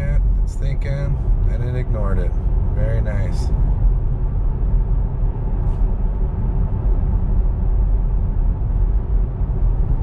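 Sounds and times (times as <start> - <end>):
road and tyre noise in car: 0.0 - 10.0.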